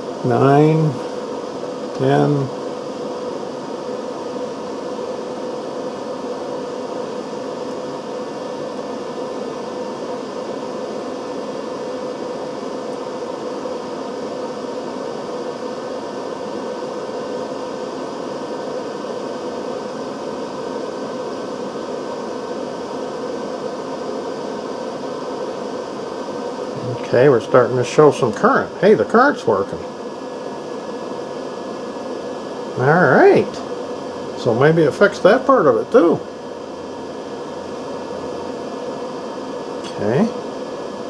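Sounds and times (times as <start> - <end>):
fan whirring hum: 0.0 - 41.0.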